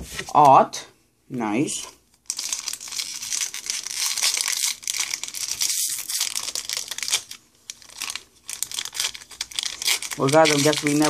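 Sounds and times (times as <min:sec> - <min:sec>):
foil wrapper crinkling: 0:02.1 - 0:11.0.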